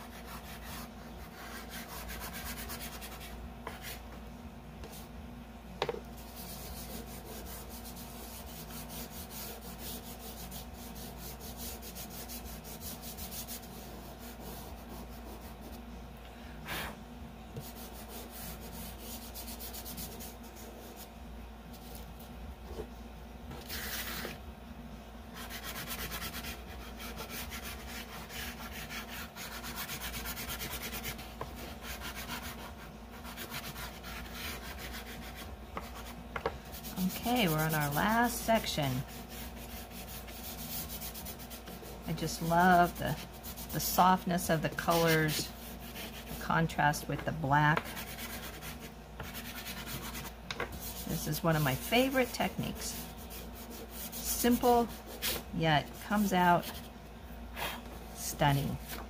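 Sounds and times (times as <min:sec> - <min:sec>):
pastel scratching on paper: 0:00.0 - 0:04.0, 0:06.2 - 0:15.8, 0:17.6 - 0:21.1, 0:23.6 - 0:24.4, 0:25.4 - 0:56.9.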